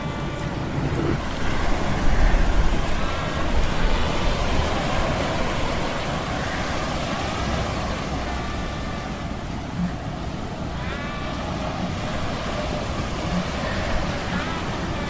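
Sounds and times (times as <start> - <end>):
waves rushing: 0.0 - 15.0
wind: 0.0 - 15.0.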